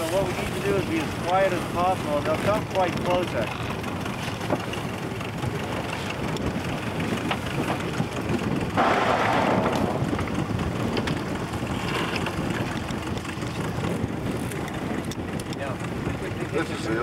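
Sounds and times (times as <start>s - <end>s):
boat engine rumble: 0.0s - 17.0s
wind on microphone: 0.0s - 17.0s.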